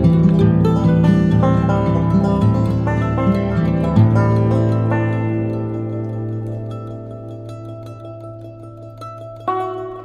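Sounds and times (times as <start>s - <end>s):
plucked-string chord ringing: 0.0s - 10.0s.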